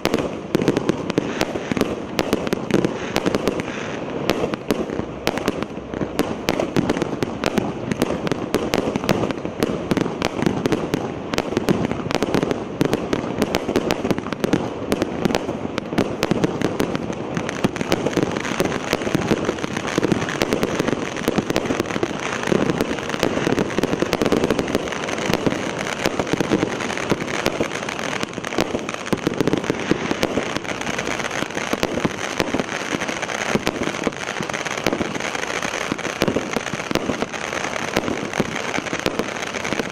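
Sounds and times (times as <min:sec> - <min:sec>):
fireworks cake firing rapidly: 0:00.0 - 0:39.9.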